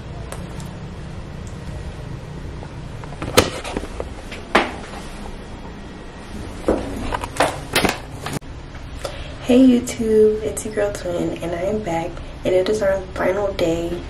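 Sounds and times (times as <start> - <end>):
room noise hum: 0.0 - 14.0.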